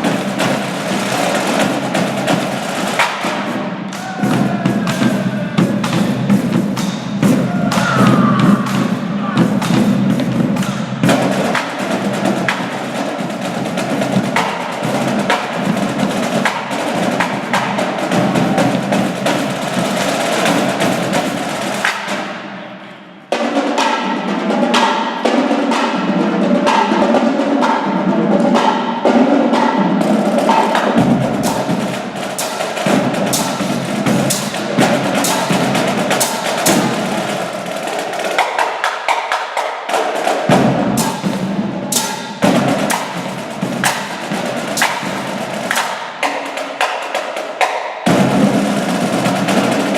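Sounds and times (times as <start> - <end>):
live percussion music: 0.0 - 49.9.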